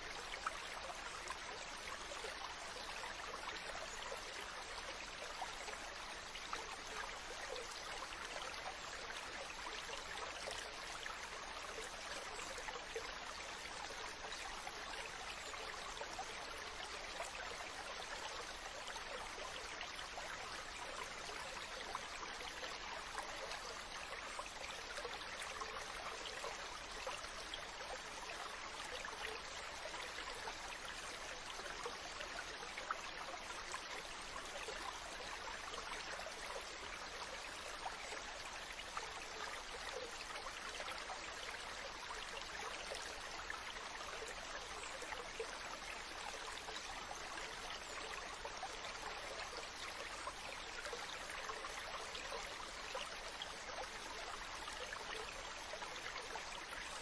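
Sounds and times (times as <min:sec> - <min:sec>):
rushing water with crackling splashes: 0:00.0 - 0:57.0.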